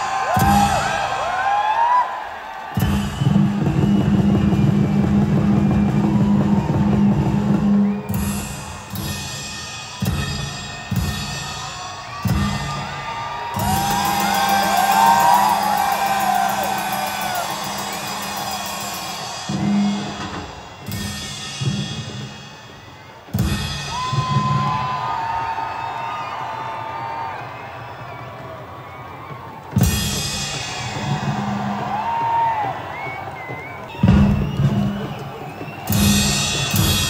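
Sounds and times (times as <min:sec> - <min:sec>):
loud music with drum beat: 0:00.0 - 0:01.6, 0:02.7 - 0:25.9, 0:29.6 - 0:37.0
crowd whooping: 0:00.0 - 0:37.0.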